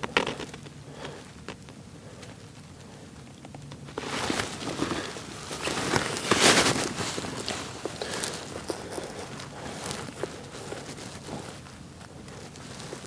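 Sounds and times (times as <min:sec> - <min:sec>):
crackling rustling noise: 0:00.0 - 0:13.0.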